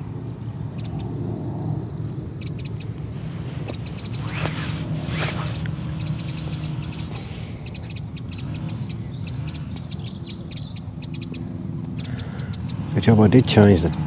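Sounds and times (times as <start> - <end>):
small birds chirping: 0.0 - 1.2, 1.9 - 14.0
distant machinery hum: 0.0 - 14.0.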